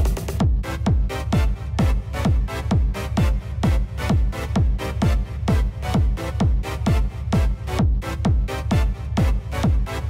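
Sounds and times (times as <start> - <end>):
hi-hats: 0.0 - 10.0
kick drum: 0.0 - 10.0
synth chords: 0.0 - 10.0.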